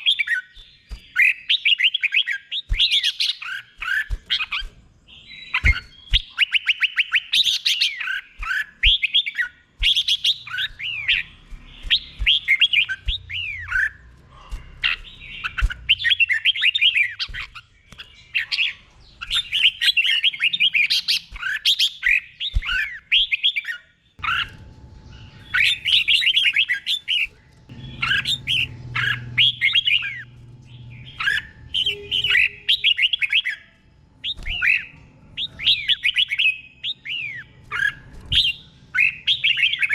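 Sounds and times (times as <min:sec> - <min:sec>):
bird singing whistled phrases: 0:00.0 - 0:14.0, 0:14.8 - 0:24.6, 0:25.2 - 0:39.9.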